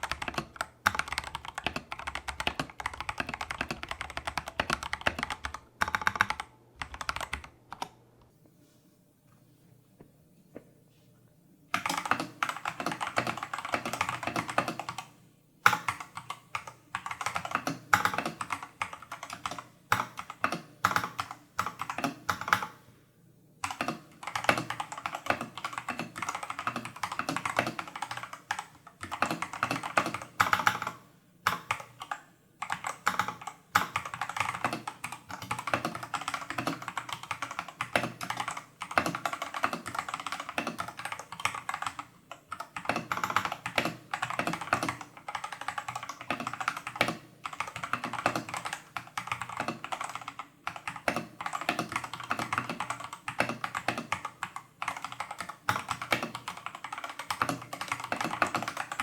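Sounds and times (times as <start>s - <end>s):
fast typing on mechanical keyboard: 0.0s - 7.9s, 11.7s - 15.1s, 15.7s - 22.8s, 23.6s - 59.0s.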